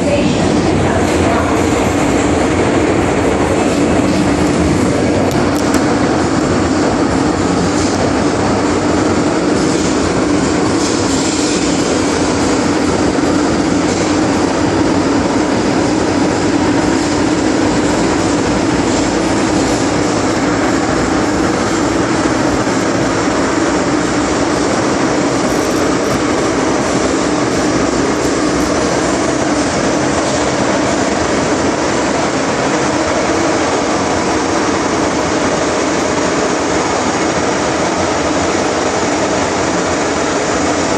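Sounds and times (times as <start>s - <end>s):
constant low hum: 0.0s - 40.9s
train wheels rumbling on rail: 0.0s - 40.9s.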